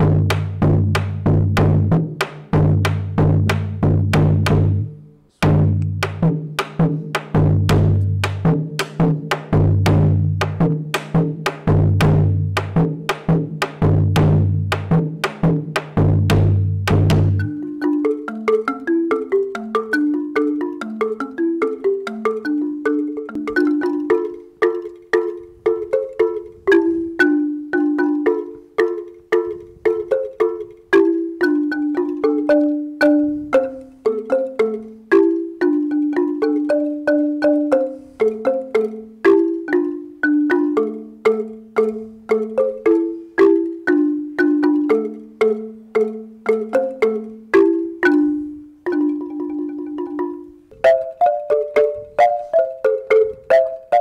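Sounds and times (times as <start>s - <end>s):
marimba melody: 0.0s - 54.0s.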